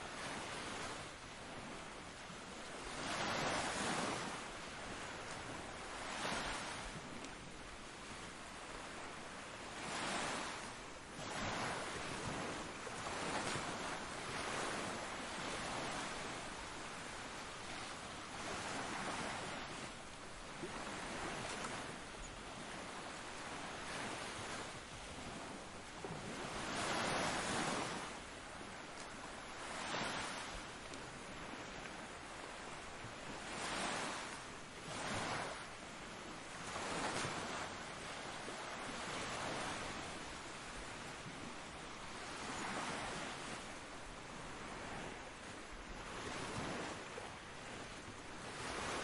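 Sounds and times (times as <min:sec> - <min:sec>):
ocean waves washing ashore: 0:00.0 - 0:49.0.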